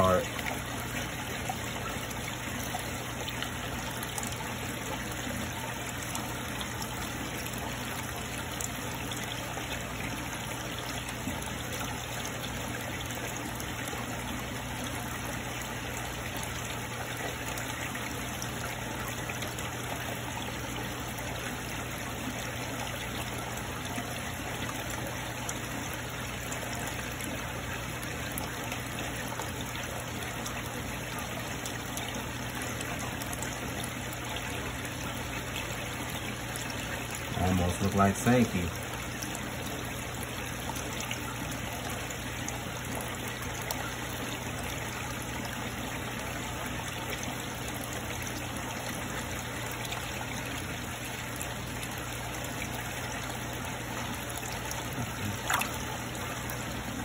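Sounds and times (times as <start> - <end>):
pump humming: 0.0 - 57.0
trickling water: 0.0 - 57.0.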